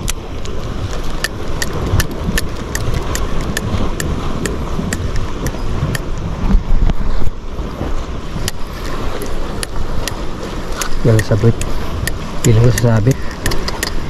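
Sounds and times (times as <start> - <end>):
fishing reel ticking: 0.0 - 6.1, 8.4 - 14.0
wind buffeting microphone: 0.0 - 14.0.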